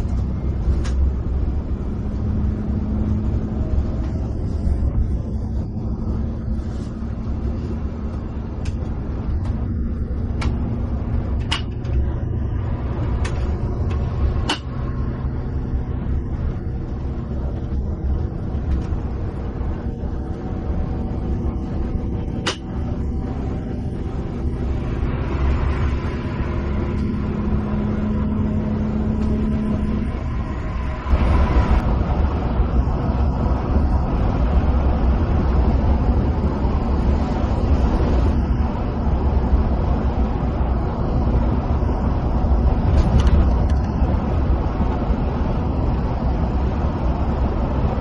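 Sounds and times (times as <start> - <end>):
bus engine and road rumble: 0.0 - 48.0.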